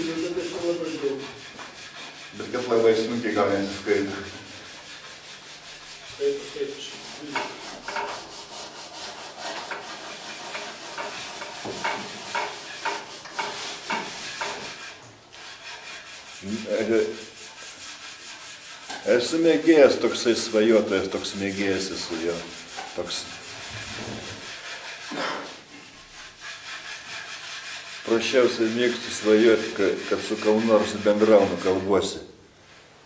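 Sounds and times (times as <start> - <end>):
hand sanding wood: 0.0 - 32.2.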